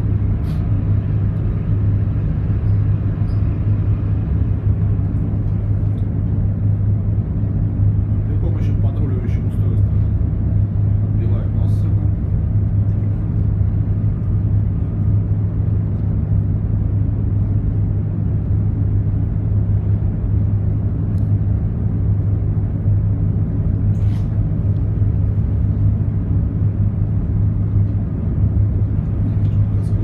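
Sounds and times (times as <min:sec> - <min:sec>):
ship machinery hum and rumble: 0:00.0 - 0:30.0.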